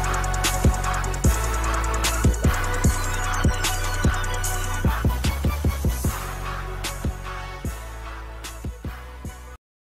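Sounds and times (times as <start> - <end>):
background music with bass drum: 0.0 - 9.6.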